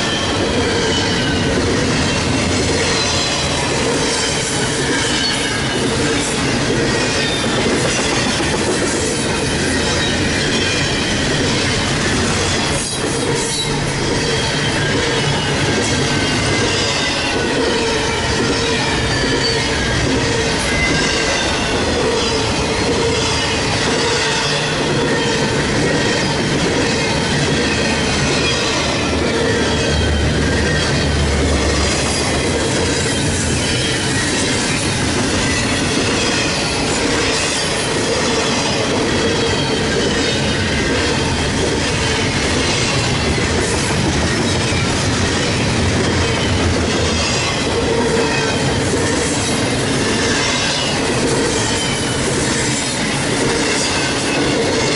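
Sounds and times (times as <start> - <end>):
train rolling rumble: 0.0 - 54.9
train wheels squealing: 0.0 - 54.9.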